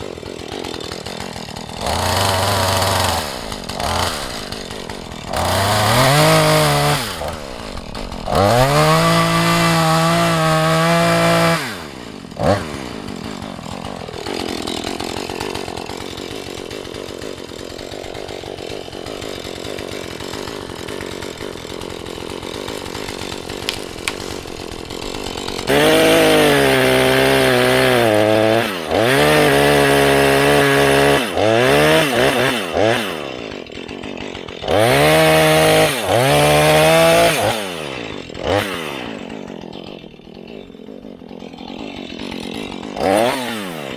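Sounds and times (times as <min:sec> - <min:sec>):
chainsaw revving and idling: 0:00.0 - 0:43.9.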